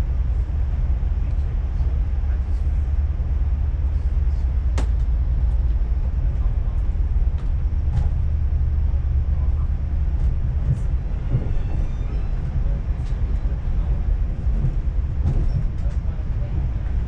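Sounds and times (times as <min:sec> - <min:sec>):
train rumble from inside carriage: 0:00.0 - 0:17.0.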